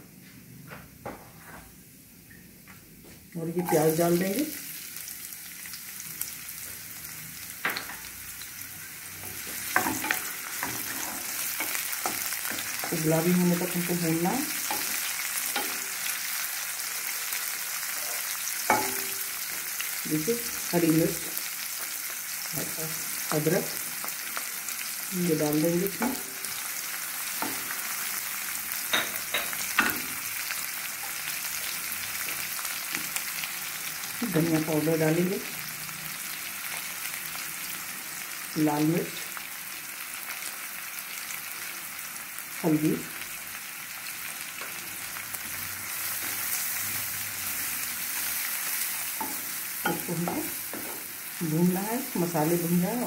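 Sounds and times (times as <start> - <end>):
onion sizzling in oil: 3.4 - 53.0.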